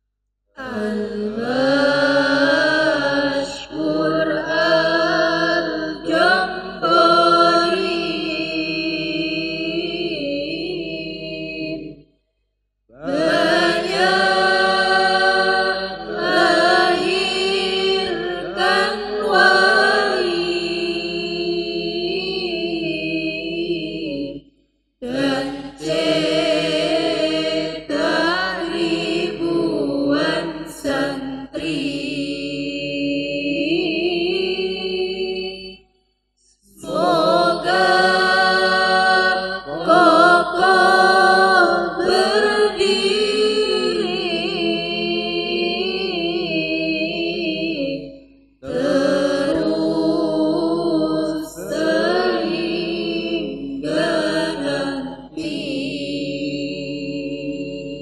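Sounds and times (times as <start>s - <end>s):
group singing in unison: 0.6s - 12.1s, 12.9s - 24.4s, 25.0s - 35.8s, 36.4s - 58.0s.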